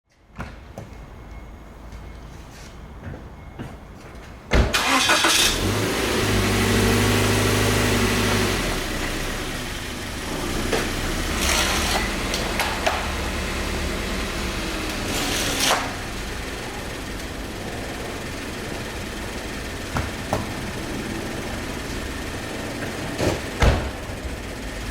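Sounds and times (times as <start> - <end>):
car engine starting and idling: 4.4 - 24.9
loud noisy engine bursts: 4.8 - 24.9.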